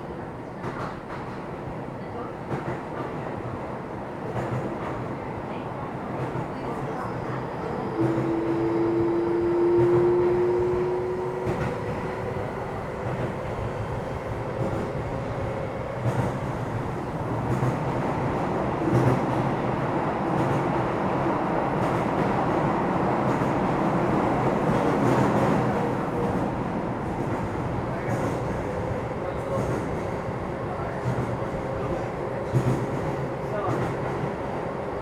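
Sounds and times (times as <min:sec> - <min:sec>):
electric train rumbling on rails: 0:00.0 - 0:35.0.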